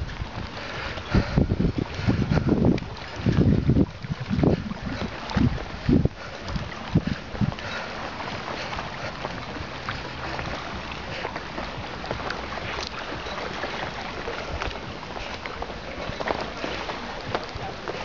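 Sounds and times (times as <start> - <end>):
footsteps on wet stone: 0.0 - 18.0
steady rushing noise: 0.0 - 18.0.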